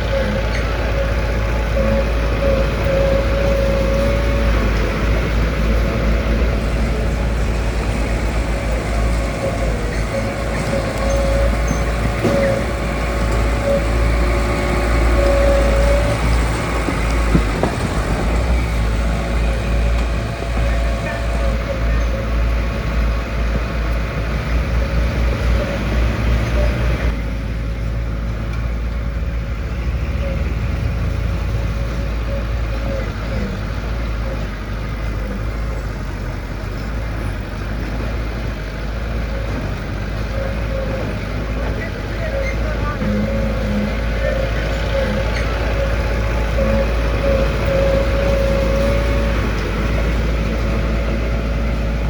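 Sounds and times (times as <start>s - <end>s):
diesel machinery rumble: 0.0s - 52.0s.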